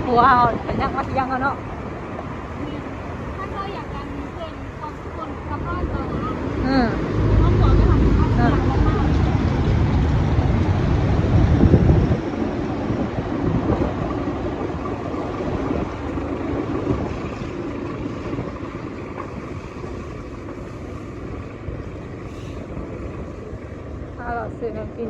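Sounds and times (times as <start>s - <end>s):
vehicle road noise: 0.0s - 25.0s
wind buffeting microphone: 0.0s - 25.0s.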